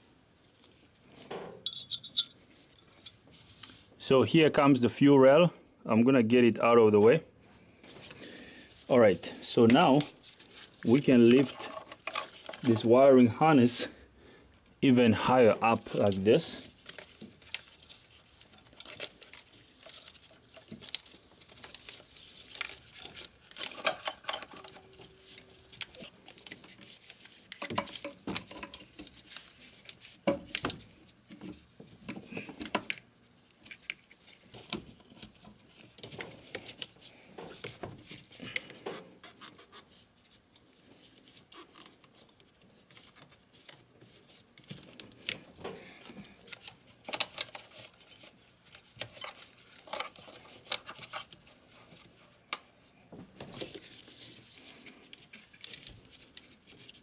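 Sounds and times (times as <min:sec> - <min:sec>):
hands handling plastic and metal parts: 0:00.3 - 0:04.0, 0:07.8 - 0:13.7, 0:15.5 - 0:57.0.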